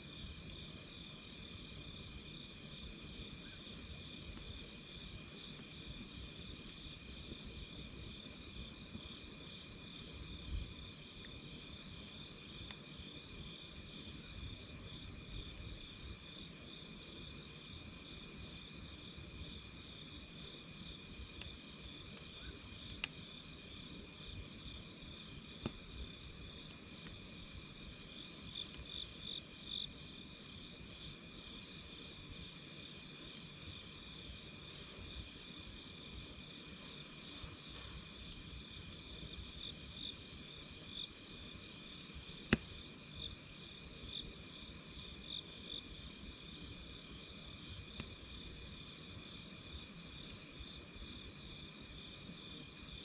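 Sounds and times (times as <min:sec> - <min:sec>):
insects chirping: 0:00.0 - 0:53.0
campfire crackling pops: 0:00.1 - 0:52.9.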